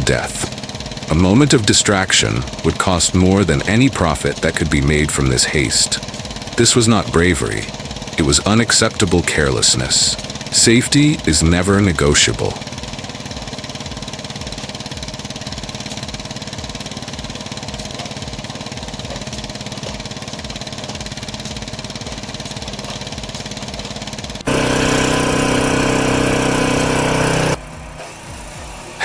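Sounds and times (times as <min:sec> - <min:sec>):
machine engine pulsing: 0:00.0 - 0:28.6
held machine tones: 0:00.0 - 0:28.8.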